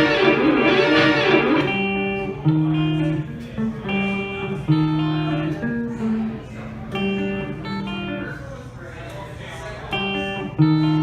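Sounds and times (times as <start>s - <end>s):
guitar music: 0.0s - 8.6s, 9.8s - 11.0s.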